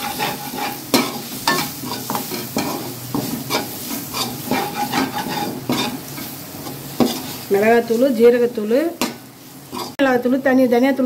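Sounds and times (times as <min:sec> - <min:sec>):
metal spatula scraping pan: 0:00.0 - 0:08.1, 0:09.0 - 0:10.0
frying oil sizzling: 0:00.0 - 0:11.0.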